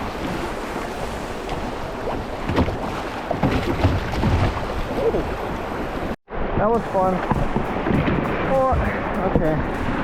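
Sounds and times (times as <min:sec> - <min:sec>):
water rushing in river rapid: 0:00.0 - 0:10.0
water splashing: 0:00.0 - 0:10.0
wind buffeting microphone: 0:00.0 - 0:10.0.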